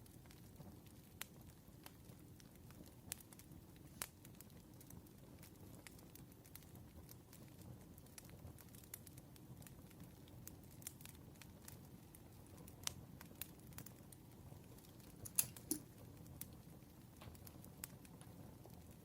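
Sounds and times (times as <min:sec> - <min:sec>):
campfire crackling: 0:00.0 - 0:19.0
sharp pops of burning wood: 0:02.7 - 0:19.0.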